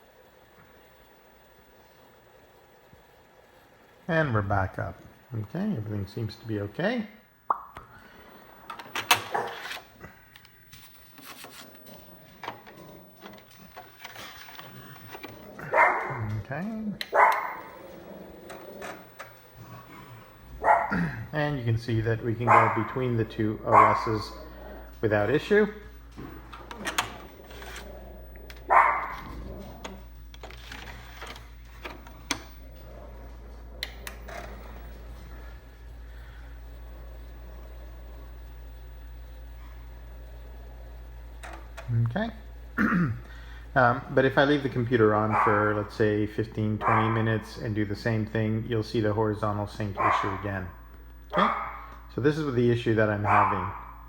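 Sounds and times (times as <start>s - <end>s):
computer humming: 0.0s - 54.0s.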